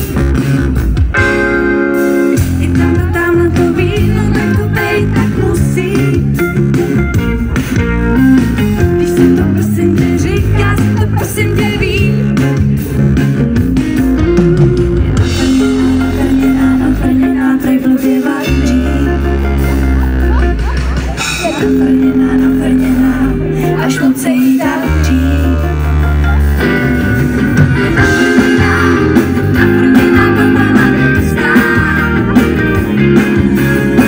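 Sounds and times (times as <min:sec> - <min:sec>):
bass guitar: 0:00.0 - 0:34.0
guitar: 0:00.0 - 0:34.0
live band music: 0:00.0 - 0:34.0.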